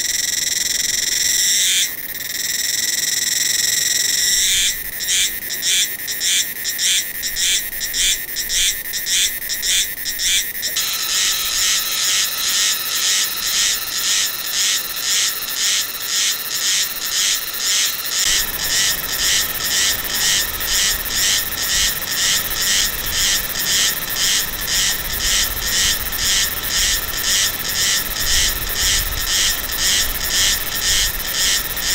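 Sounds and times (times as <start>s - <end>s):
cicada singing: 0.0s - 31.9s.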